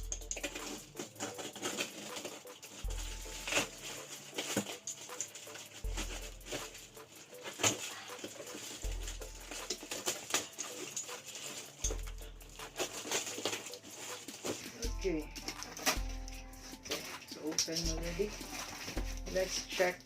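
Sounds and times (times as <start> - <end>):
packaging crinkling and tearing: 0.0 - 20.0.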